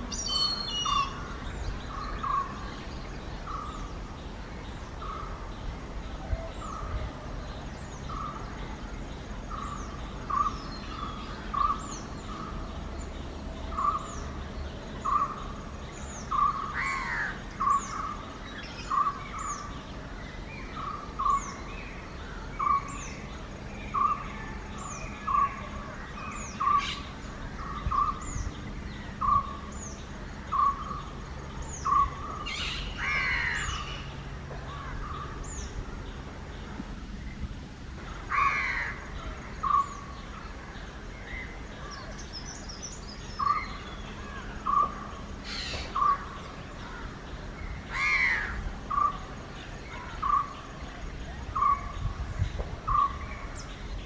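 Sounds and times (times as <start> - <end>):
hornbill gliding call: 0.0 - 4.0, 6.2 - 12.8, 13.6 - 19.8, 20.6 - 36.2, 38.1 - 50.7, 52.8 - 53.7
bird calls: 0.0 - 54.0.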